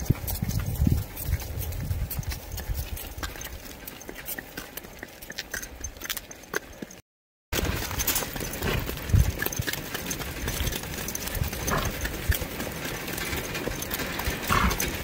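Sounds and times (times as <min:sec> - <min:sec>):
hooves clip-clopping on gravel: 0:00.0 - 0:07.0, 0:07.6 - 0:15.0.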